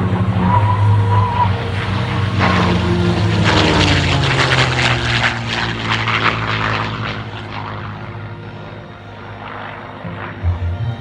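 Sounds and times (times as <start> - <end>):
propeller plane engine passing: 0.0 - 11.0.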